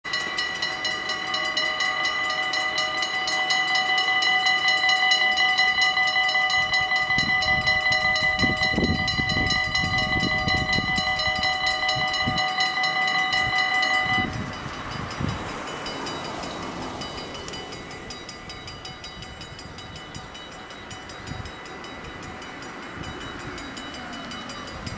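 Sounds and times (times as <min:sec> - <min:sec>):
level crossing bells ringing: 0:00.0 - 0:24.9.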